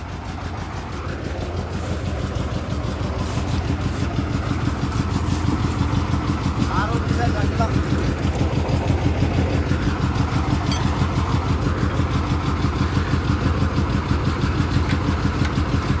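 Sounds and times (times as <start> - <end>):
drilling rig engine idling: 0.0 - 16.0.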